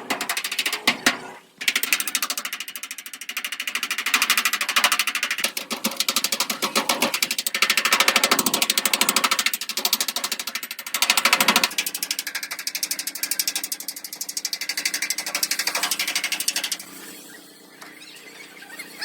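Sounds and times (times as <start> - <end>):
rapid mechanical clatter: 0.0 - 17.5.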